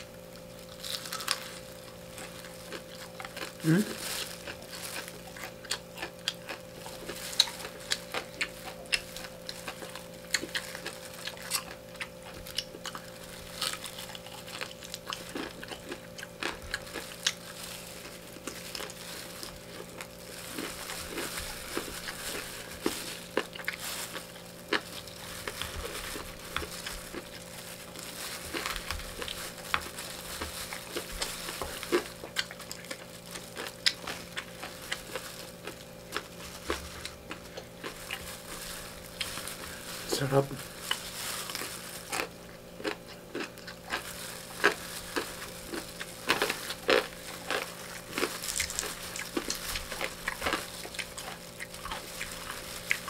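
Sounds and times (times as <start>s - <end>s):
faint hum: 0.0s - 53.0s
chewing: 0.4s - 53.0s
crunching bites of fried chicken: 0.6s - 53.0s.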